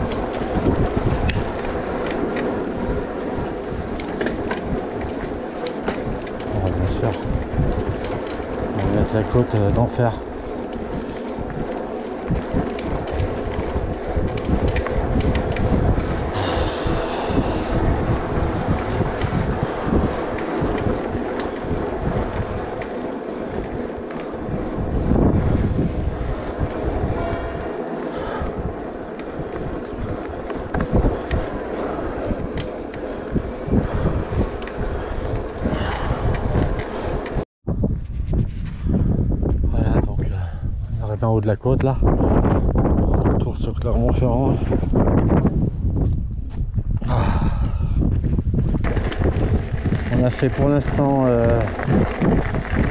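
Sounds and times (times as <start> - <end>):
tyres rumbling: 0.0 - 37.4, 47.0 - 52.9
wind rushing on microphone: 0.0 - 52.9.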